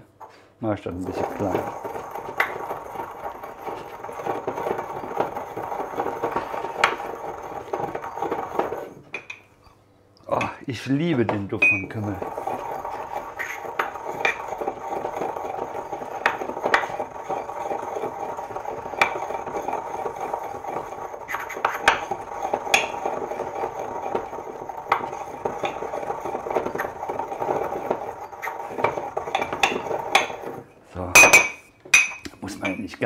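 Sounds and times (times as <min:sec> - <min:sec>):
steady hum: 0:00.0 - 0:32.9
pestle grinding in ceramic mortar: 0:00.9 - 0:09.5, 0:10.3 - 0:32.8
clatter: 0:01.0 - 0:09.4, 0:11.2 - 0:32.2.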